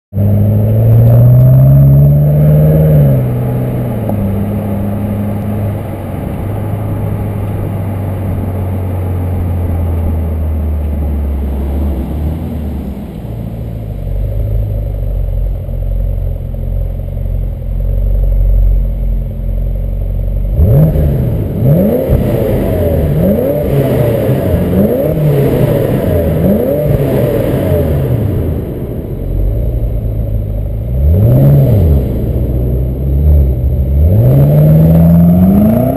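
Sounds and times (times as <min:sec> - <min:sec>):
car engine revving and idling: 0:00.1 - 0:35.9.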